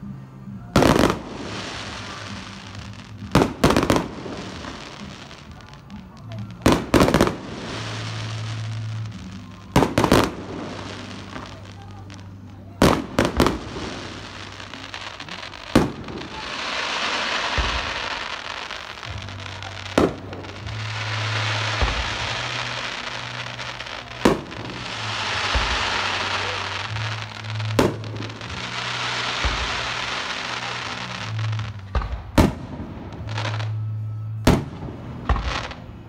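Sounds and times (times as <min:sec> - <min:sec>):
crackling hiss of fireworks: 0:00.0 - 0:36.0
fireworks bangs: 0:00.5 - 0:36.0.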